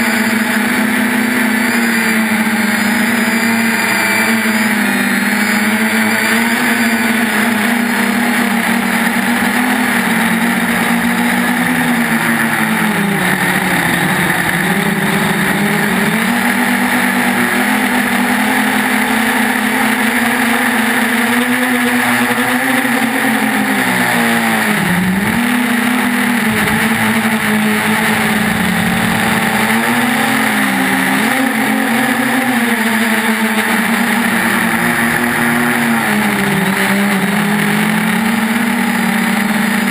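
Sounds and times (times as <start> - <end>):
quadcopter propellers buzzing: 0.0 - 39.9.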